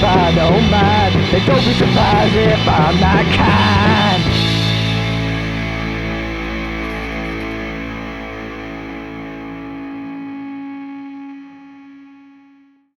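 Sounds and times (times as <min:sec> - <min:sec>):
distorted electric guitar chord ringing: 0:00.0 - 0:12.7.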